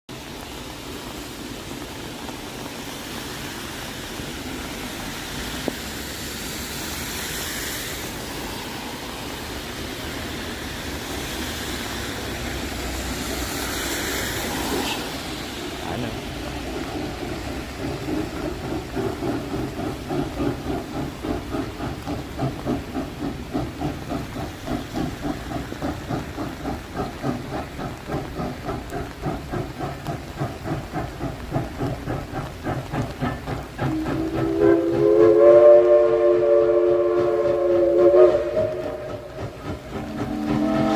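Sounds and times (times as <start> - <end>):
steam locomotive chuffing: 0.1 - 40.9
train rumbling past: 0.1 - 40.9.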